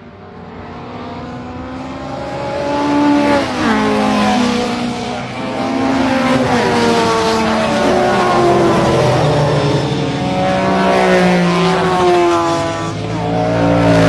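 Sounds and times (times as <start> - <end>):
race car engine at high revs: 0.0 - 14.0.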